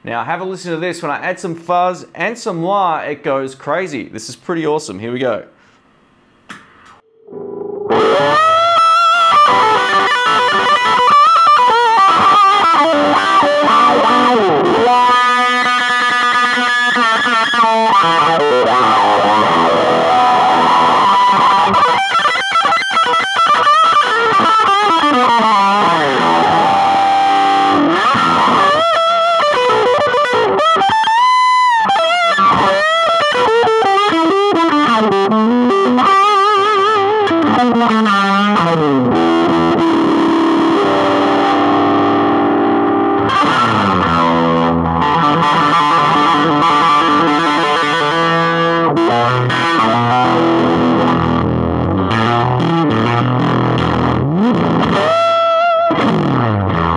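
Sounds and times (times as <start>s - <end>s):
distorted electric guitar with wah: 6.7s - 56.9s.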